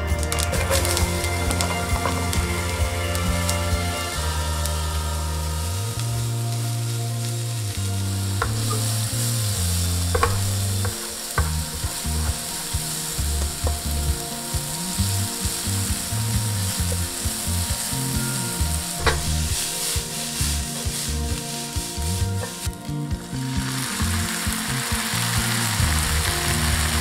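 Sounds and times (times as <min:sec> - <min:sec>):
leeks sizzling in a pan: 0:00.0 - 0:27.0.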